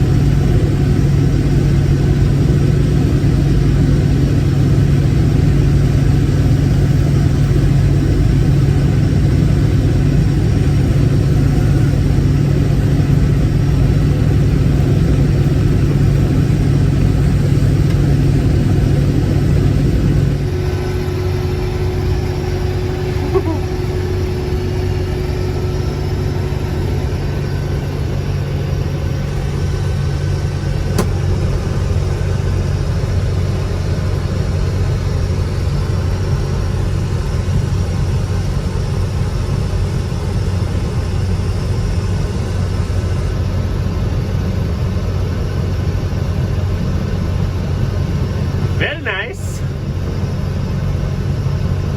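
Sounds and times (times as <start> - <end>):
combine harvester droning: 0.0 - 36.5, 46.6 - 51.9.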